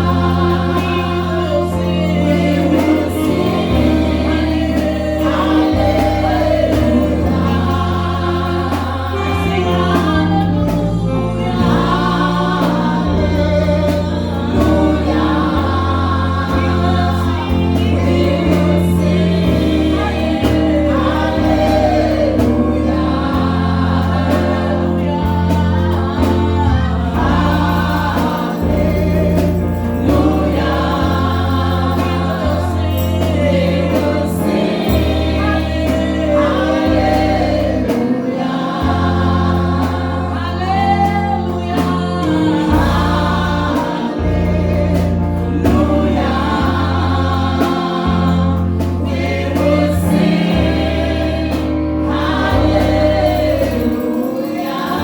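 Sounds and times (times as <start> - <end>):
bass holding long notes: 0.0 - 55.0
gospel choir singing: 0.0 - 55.0.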